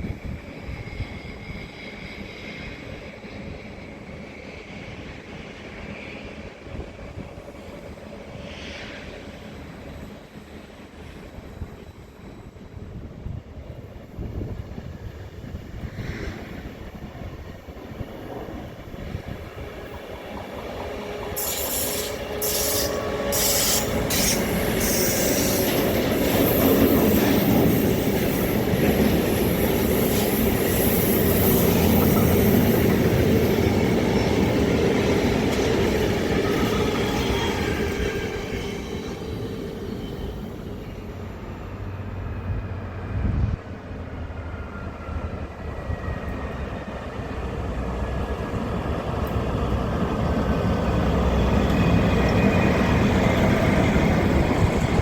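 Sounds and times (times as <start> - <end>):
train passing on rails: 0.0 - 55.0.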